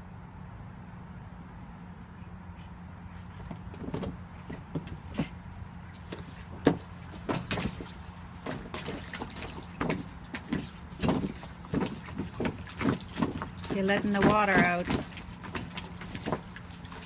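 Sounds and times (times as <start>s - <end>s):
water sloshing in paddling pool: 3.2s - 17.0s.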